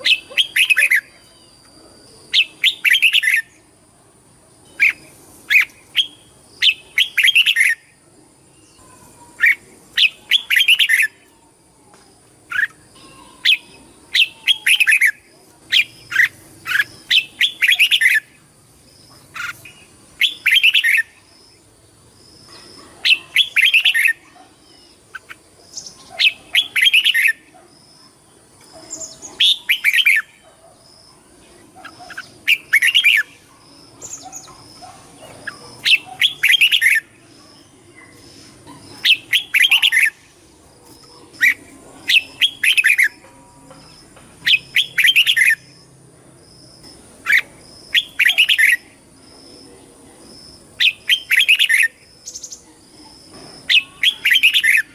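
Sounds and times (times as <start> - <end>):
bird singing warbling phrases: 0.0 - 3.7, 4.7 - 21.7, 22.3 - 46.0, 46.8 - 54.9.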